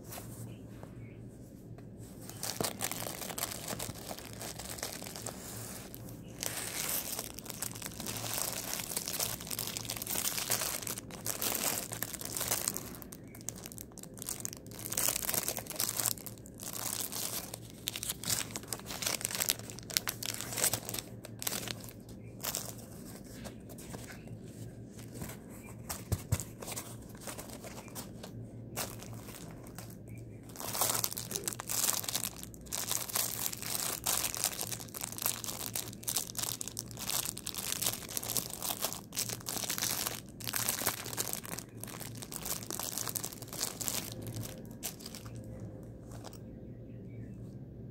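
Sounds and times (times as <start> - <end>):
plastic packaging crinkling: 2.1 - 46.4.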